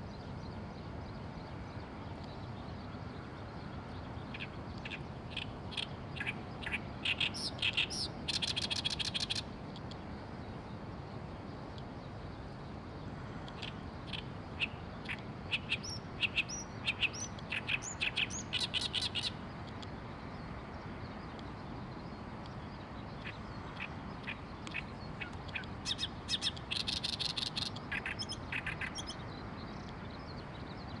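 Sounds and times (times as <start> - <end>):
reed warbler singing: 0.0 - 31.0.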